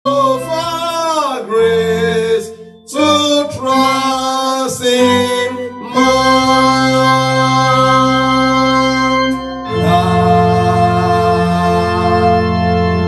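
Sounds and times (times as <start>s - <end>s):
man singing long held notes: 0.1s - 13.0s.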